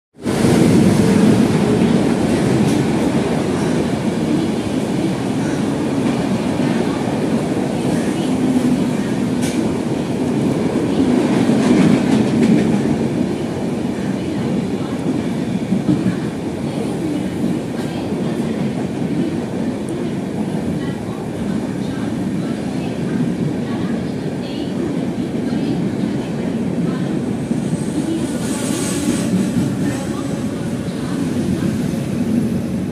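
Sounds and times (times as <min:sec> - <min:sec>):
train wheels rumbling on rails: 0:00.2 - 0:32.9.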